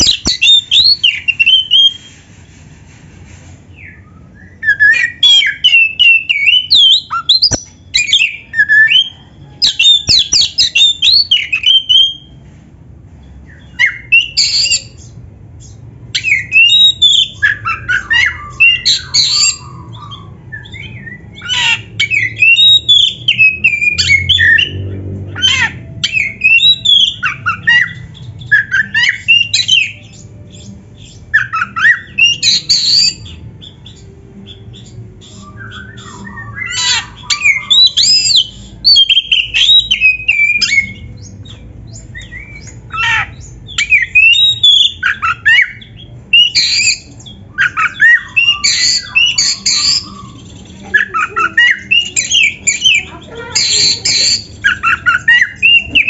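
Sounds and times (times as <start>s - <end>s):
bird singing: 0.0s - 2.2s, 3.8s - 12.3s, 13.2s - 56.0s.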